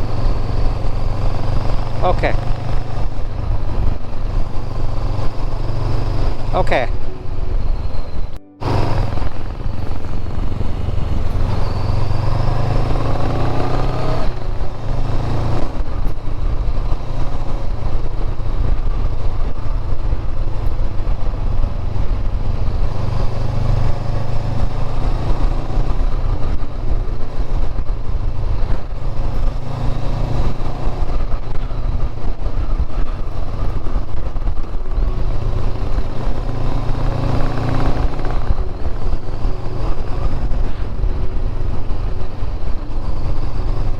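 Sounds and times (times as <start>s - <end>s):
motorcycle engine running: 0.0s - 43.9s
wind and road rush: 0.0s - 43.9s.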